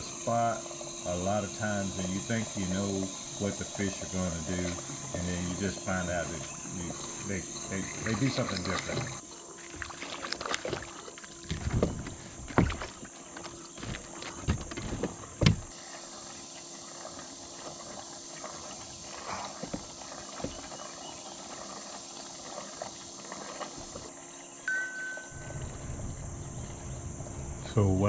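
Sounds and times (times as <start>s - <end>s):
high insect chorus: 0.0s - 28.0s.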